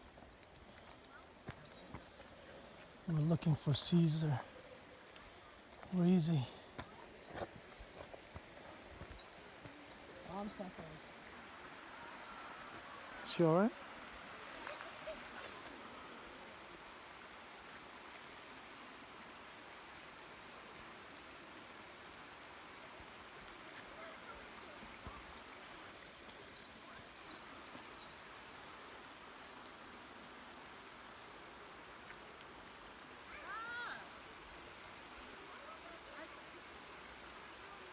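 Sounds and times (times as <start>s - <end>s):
light rain falling: 0.0s - 37.9s.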